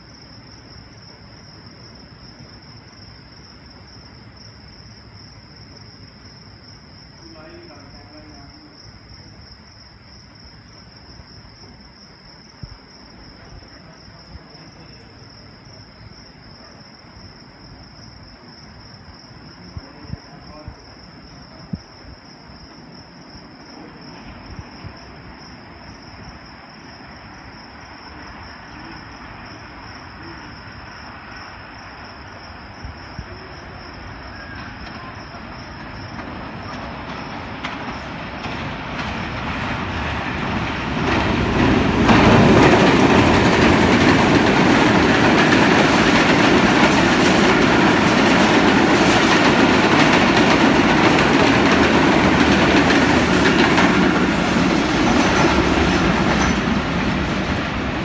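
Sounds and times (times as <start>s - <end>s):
crickets chirring: 0.0s - 58.0s
train rumble: 0.0s - 58.0s.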